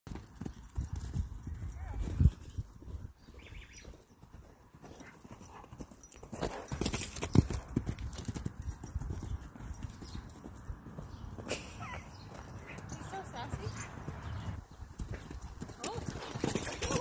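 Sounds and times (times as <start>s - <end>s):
horse hoofbeats on sand: 0.1s - 17.0s.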